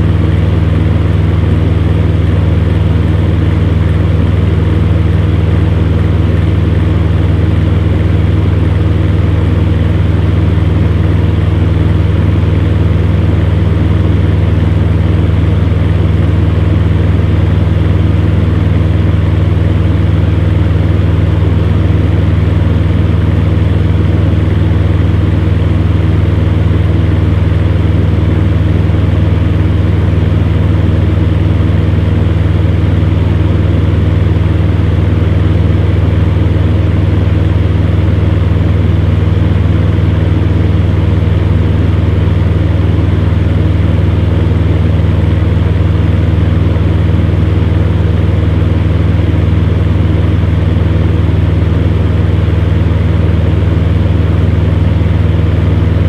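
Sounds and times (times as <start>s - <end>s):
fan heater running: 0.0s - 56.0s.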